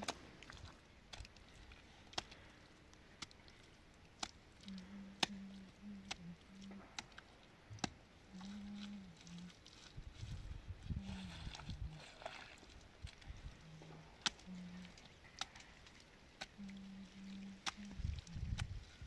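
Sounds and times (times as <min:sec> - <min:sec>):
faint low hum: 0:00.1 - 0:19.0.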